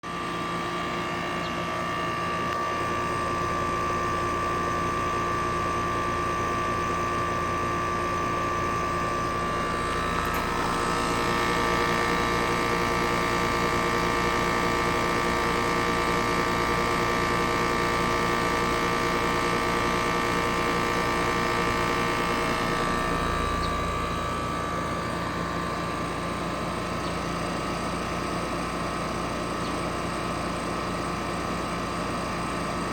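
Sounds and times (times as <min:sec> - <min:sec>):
heat pump humming: 0:00.0 - 0:32.9.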